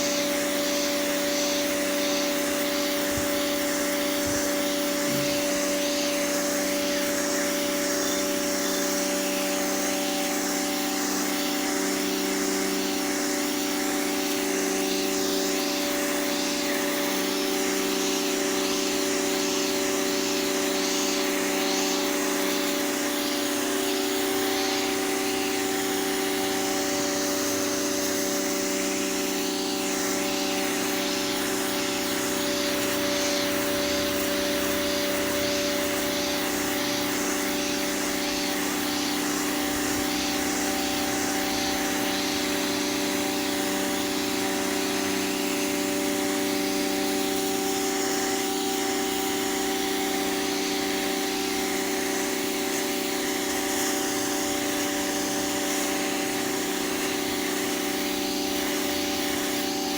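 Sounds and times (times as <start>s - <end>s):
pressure washer motor humming: 0.0s - 59.9s
water jet hissing on pavement: 0.0s - 59.9s.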